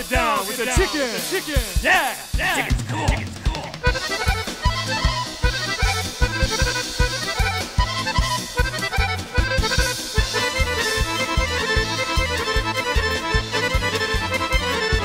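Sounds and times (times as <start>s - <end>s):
bass and drum beat: 0.0s - 15.0s
fast accordion melody: 0.0s - 15.0s.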